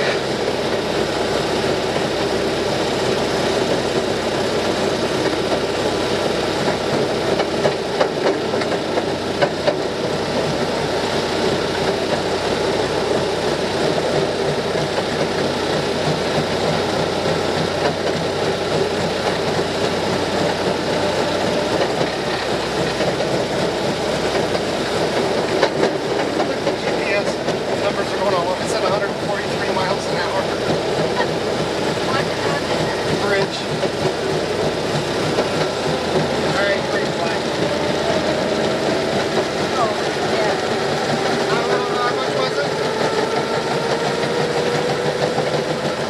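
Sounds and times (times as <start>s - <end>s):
rail motorcar mechanical rumble: 0.0s - 46.0s.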